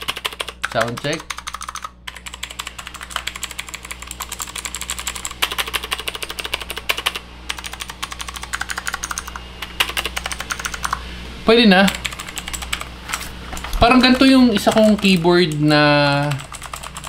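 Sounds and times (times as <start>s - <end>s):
fast typing on clicky keyboard: 0.0s - 11.0s, 11.8s - 13.2s, 13.9s - 17.0s.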